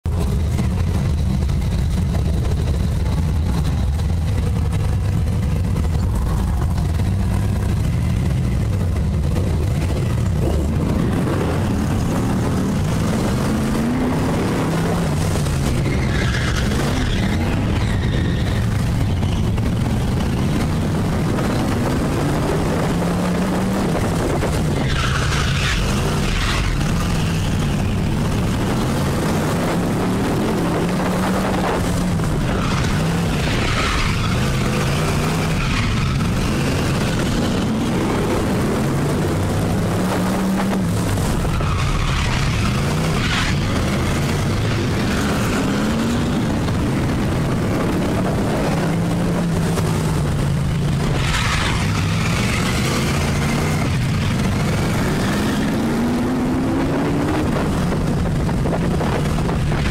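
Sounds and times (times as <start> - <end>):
race car engine revving: 0.1 - 59.9.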